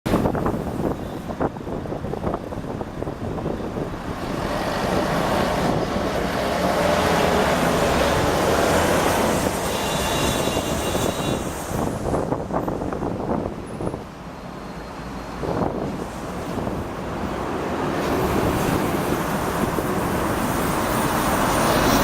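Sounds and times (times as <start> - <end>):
wind on microphone: 0.1 - 14.1, 15.4 - 22.0.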